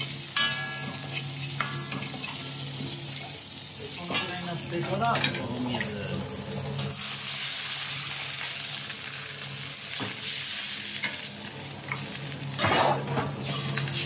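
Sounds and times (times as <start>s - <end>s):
vegetables sizzling in a wok: 0.0s - 14.0s.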